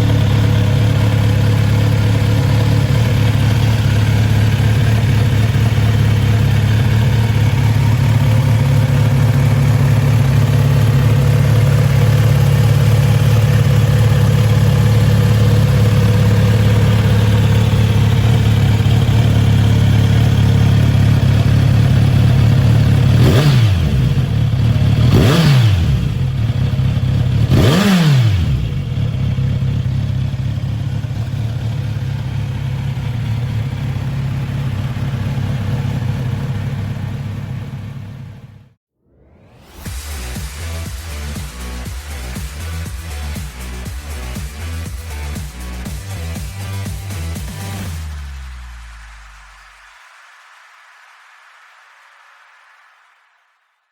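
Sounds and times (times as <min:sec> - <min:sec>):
motorcycle engine idling and revving: 0:00.0 - 0:38.8, 0:39.7 - 0:49.6.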